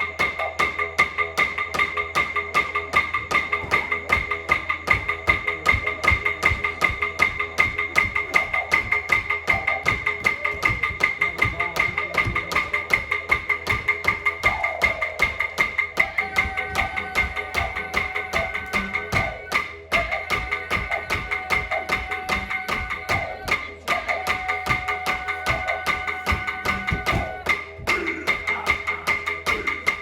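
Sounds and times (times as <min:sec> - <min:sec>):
didgeridoo drone: 0:00.0 - 0:30.0.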